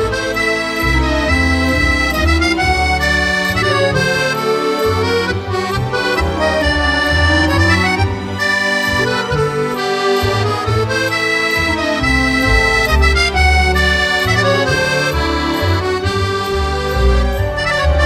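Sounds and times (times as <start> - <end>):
accordion tune with bass line: 0.0 - 18.0.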